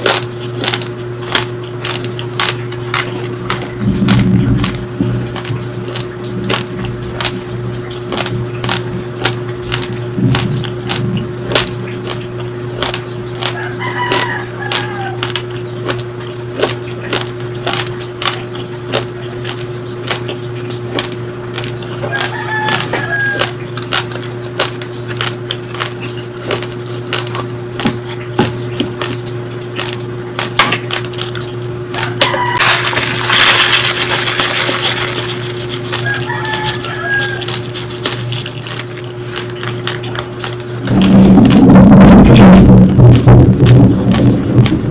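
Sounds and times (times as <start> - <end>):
chewing crunchy rice: 0.0 - 44.9.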